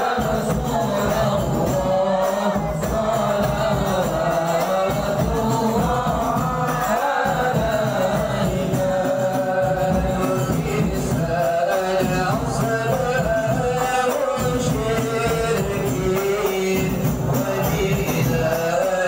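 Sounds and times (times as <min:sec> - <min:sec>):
men singing devotional song together: 0:00.0 - 0:19.0.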